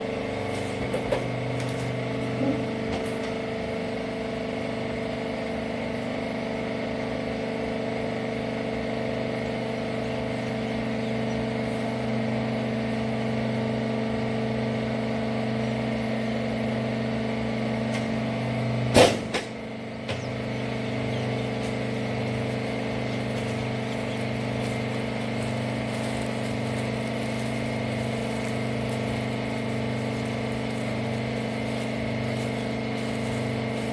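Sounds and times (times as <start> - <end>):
baler motor and pump humming: 0.0 - 33.9.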